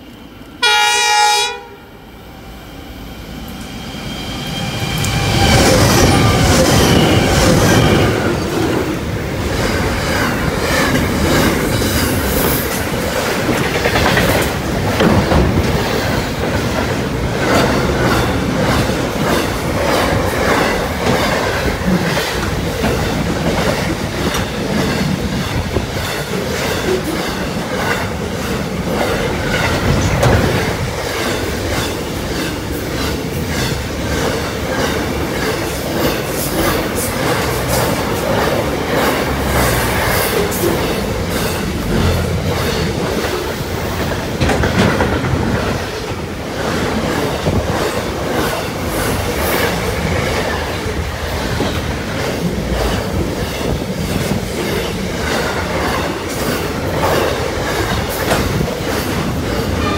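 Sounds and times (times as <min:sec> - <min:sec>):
train wagons rumbling past: 0:00.0 - 0:59.9
wheels clacking over rail joints: 0:05.0 - 0:59.9.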